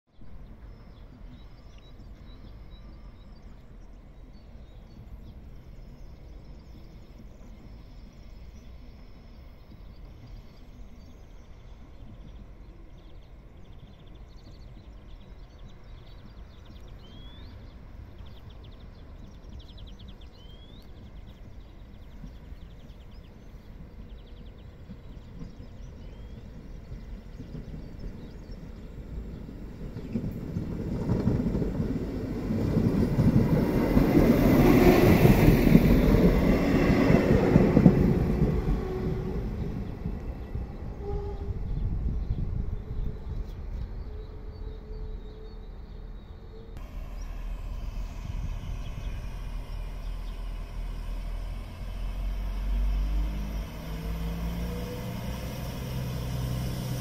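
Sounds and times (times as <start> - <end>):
low rumble of open-air noise: 0.1 - 57.0
small birds singing: 0.1 - 57.0.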